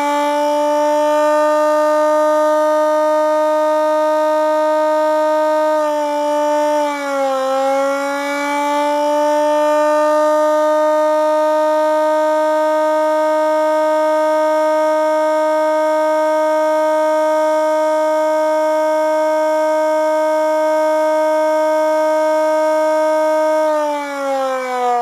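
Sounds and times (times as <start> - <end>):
air raid siren: 0.0 - 25.0.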